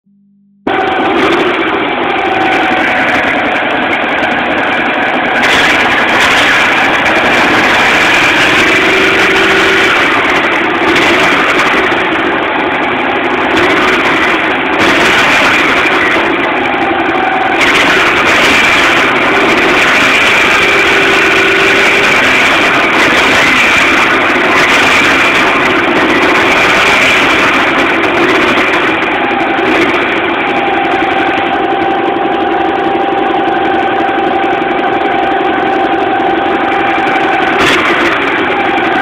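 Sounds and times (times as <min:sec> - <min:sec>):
car engine running: 0:00.1 - 0:39.0.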